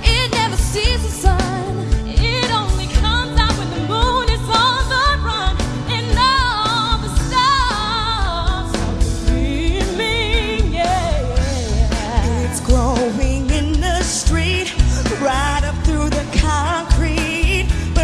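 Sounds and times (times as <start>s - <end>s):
person singing with vibrato: 0.0s - 18.0s
pop-soul band: 0.0s - 18.0s.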